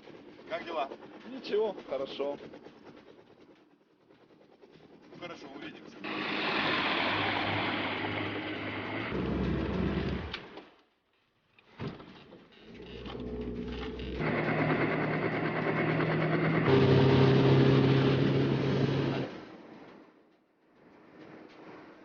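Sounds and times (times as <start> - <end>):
motor droning hum: 0.0 - 10.6, 12.4 - 20.0.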